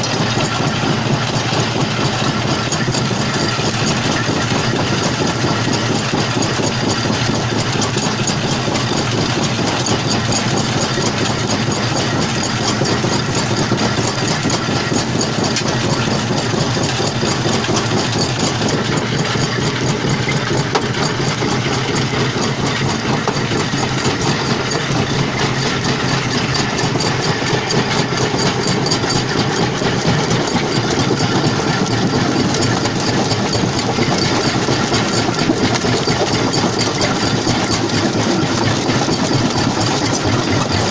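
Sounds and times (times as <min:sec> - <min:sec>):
jaw crusher mechanical din: 0:00.0 - 0:40.9.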